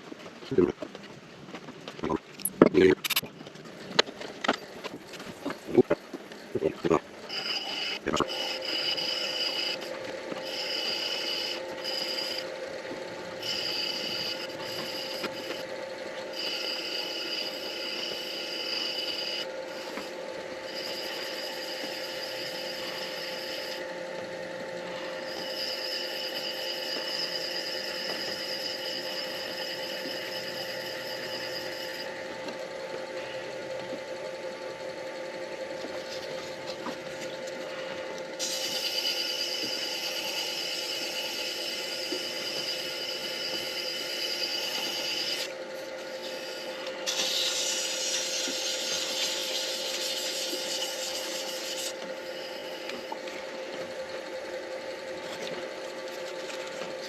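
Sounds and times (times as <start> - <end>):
lathe motor running: 3.9 - 57.0.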